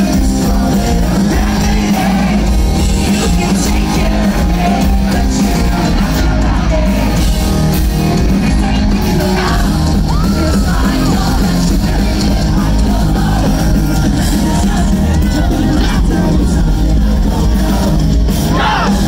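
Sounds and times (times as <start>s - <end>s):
live rock band playing: 0.0s - 19.0s
person singing: 0.0s - 19.0s.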